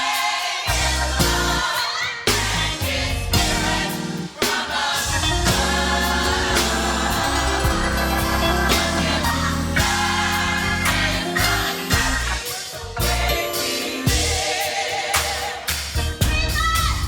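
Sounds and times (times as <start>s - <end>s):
youth choir singing gospel: 0.0s - 17.0s
band with bass and drums: 0.7s - 17.0s.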